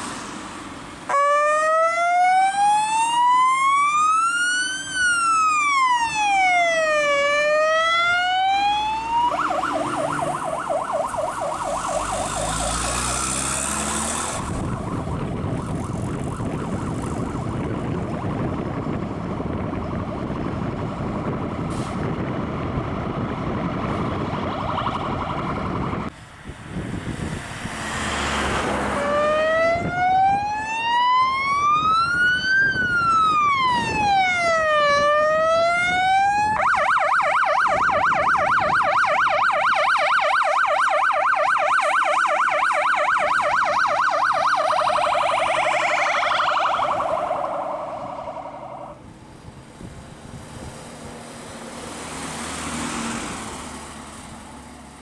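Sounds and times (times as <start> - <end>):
truck engines pulling away: 0.0 - 55.0
fire engine siren wailing: 1.0 - 26.2, 27.0 - 49.1.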